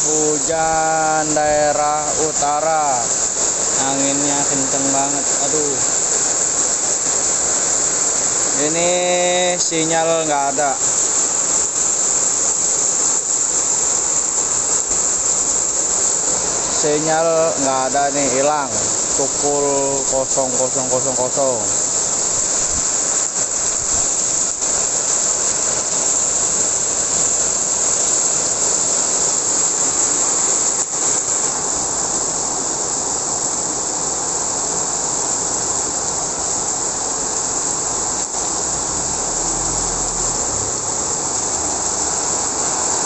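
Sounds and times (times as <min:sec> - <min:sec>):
heavy rain in strong wind: 0:00.0 - 0:43.0.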